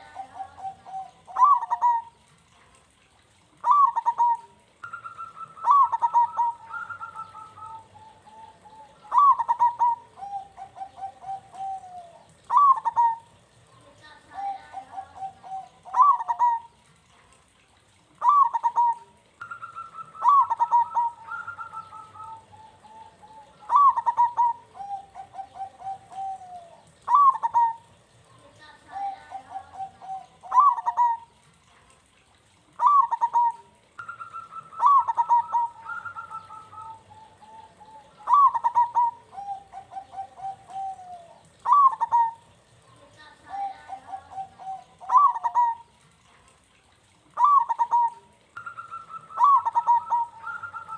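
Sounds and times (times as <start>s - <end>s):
doves cooing: 0.0s - 17.2s, 18.0s - 31.6s, 32.4s - 50.9s.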